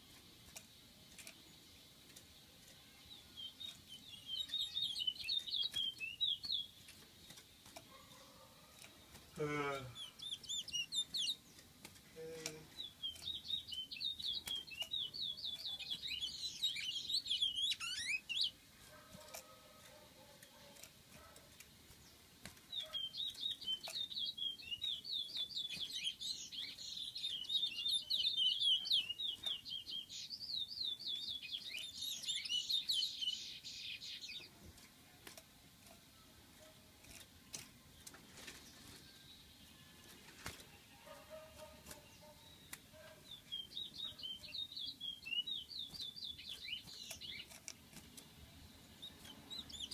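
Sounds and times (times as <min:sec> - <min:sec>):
songbird twittering song: 0:00.0 - 0:49.9.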